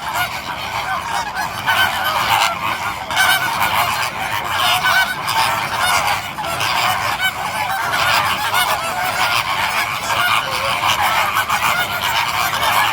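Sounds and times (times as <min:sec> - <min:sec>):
flock of birds calling: 0:00.0 - 0:12.9.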